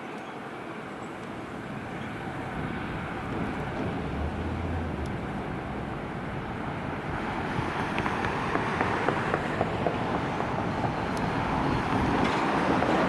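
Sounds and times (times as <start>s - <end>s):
jet engines at taxi power: 0.0s - 13.0s
wind buffeting microphone: 1.1s - 13.0s.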